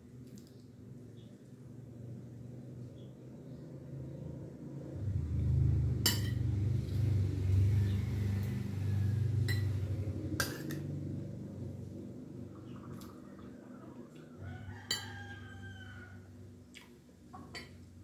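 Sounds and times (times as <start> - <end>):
low droning hum: 0.9 - 18.0.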